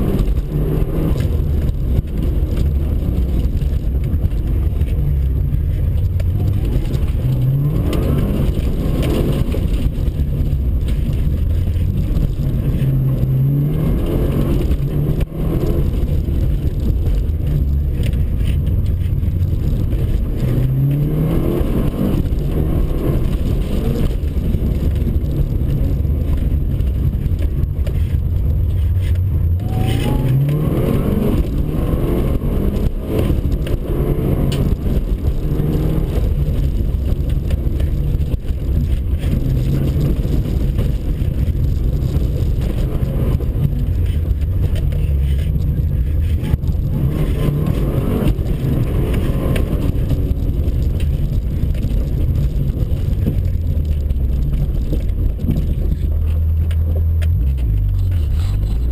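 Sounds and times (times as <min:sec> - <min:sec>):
road noise rumble: 0:00.0 - 0:58.9.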